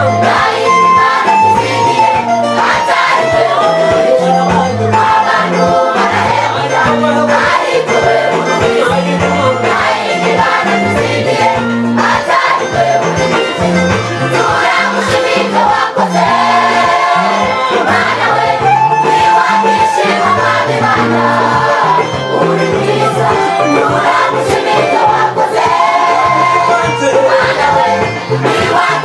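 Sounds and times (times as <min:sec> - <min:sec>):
bass line: 0:00.0 - 0:29.0
choir singing gospel: 0:00.0 - 0:29.0
drum kit: 0:00.0 - 0:29.0
electric guitars: 0:00.0 - 0:29.0.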